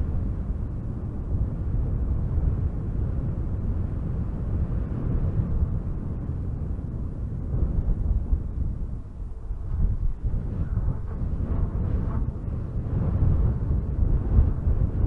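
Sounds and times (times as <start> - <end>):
strong wind gusting through trees: 0.0 - 15.0.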